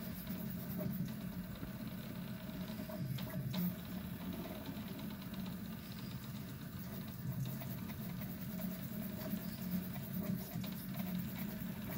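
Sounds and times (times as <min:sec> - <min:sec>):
printer stepper motors buzzing: 0:00.0 - 0:11.9.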